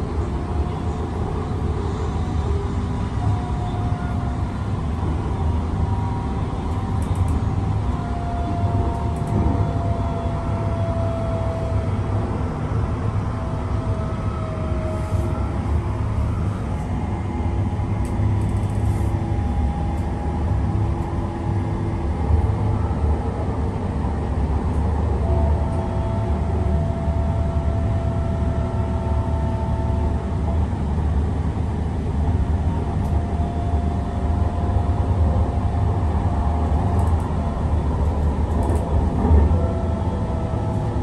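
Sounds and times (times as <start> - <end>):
train rumbling on track: 0.0 - 41.0.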